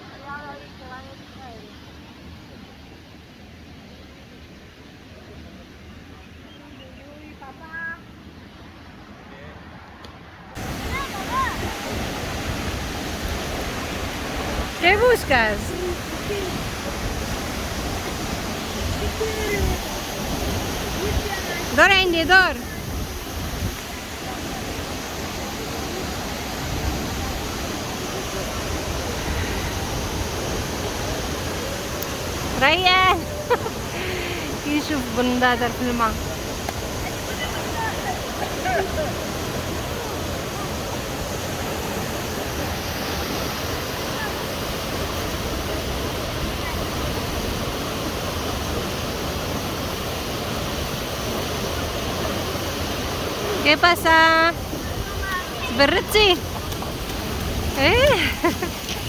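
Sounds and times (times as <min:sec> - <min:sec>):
flowing stream water: 0:07.4 - 0:59.0.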